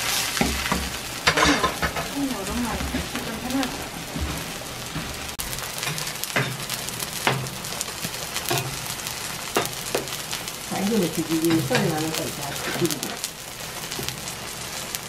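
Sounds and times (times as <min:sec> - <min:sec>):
oil crackling and popping: 0:00.0 - 0:15.0
pancake sizzling in oil: 0:00.0 - 0:15.0.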